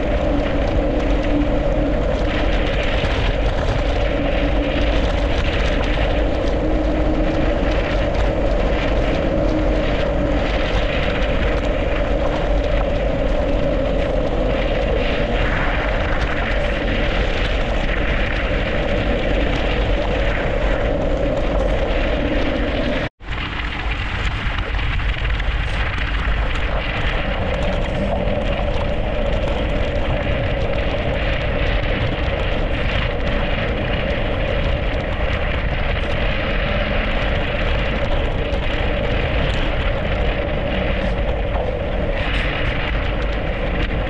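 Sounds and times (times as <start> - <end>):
drone-like hum: 0.0 - 44.0
wind on microphone: 0.0 - 44.0.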